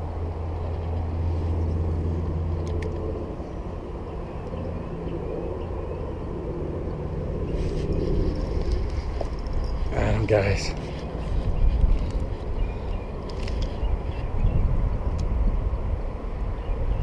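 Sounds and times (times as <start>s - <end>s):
vehicle engine humming: 0.0s - 16.8s.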